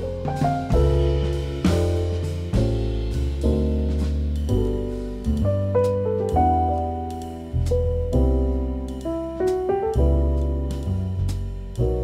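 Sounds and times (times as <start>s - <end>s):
light instrumental tune: 0.0s - 12.0s.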